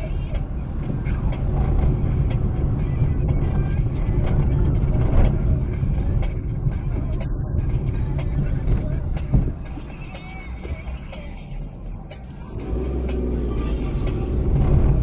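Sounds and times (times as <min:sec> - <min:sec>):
car road rumble: 0:00.0 - 0:15.0
music playing: 0:00.0 - 0:15.0.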